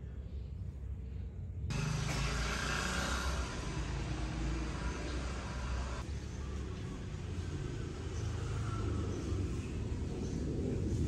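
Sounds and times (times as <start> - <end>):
road traffic rumble and hiss: 0.0 - 11.0.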